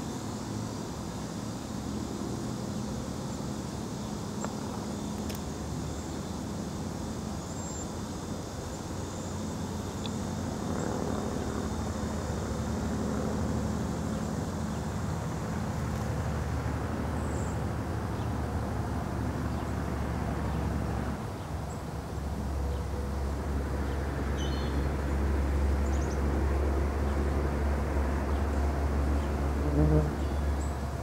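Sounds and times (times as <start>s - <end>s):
low rumble of distant engine: 0.0s - 31.0s.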